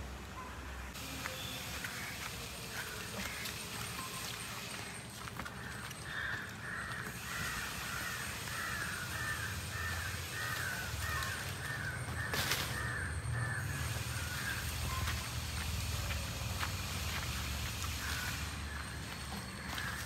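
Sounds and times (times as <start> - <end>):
bird calling: 0.4 - 15.6, 17.0 - 20.0.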